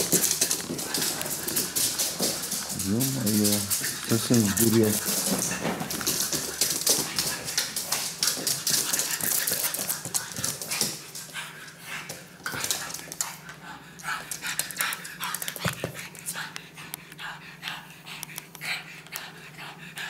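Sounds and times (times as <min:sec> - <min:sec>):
dog sounds: 0:00.0 - 0:19.5
paws clattering on floor: 0:00.0 - 0:20.0.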